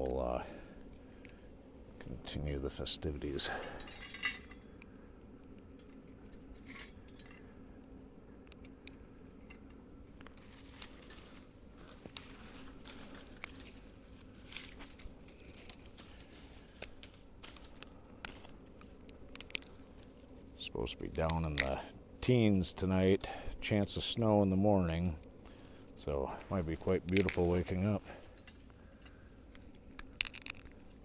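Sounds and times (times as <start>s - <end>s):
twigs snapping: 0.0s - 1.5s, 2.5s - 24.3s, 24.9s - 31.0s
faint low hum: 0.0s - 31.0s.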